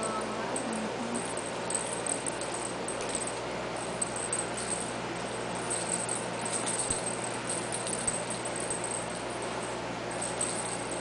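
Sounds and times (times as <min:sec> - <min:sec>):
faint jingling rattle: 0:00.0 - 0:11.0.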